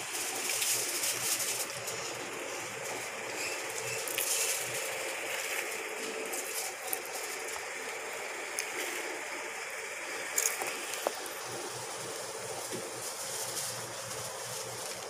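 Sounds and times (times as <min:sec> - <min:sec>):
crumbs crackling onto noodles: 0:00.0 - 0:15.0
steady background hiss: 0:00.0 - 0:15.0.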